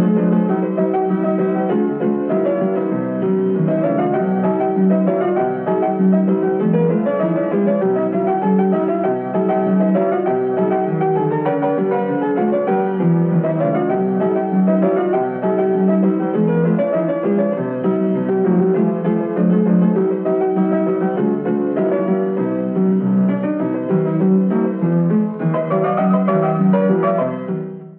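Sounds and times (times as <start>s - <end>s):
piano background music: 0.0s - 27.9s.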